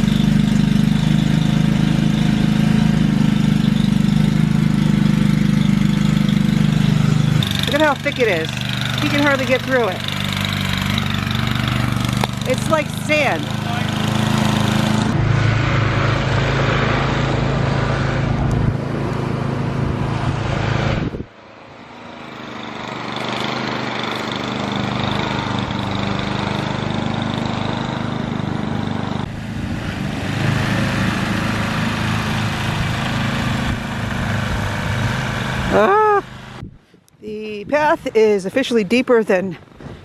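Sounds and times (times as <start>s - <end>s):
snowblower engine running: 0.0s - 36.6s.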